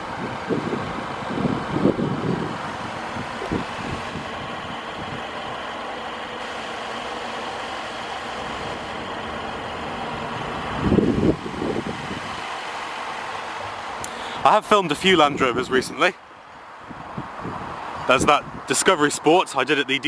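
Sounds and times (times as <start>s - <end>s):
vehicle noise: 0.0s - 20.0s.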